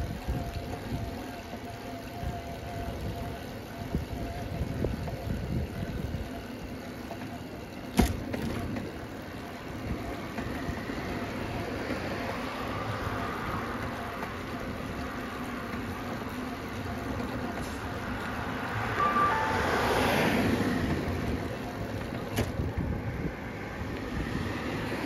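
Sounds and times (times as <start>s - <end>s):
bicycle rolling and wind noise: 0.0s - 25.0s.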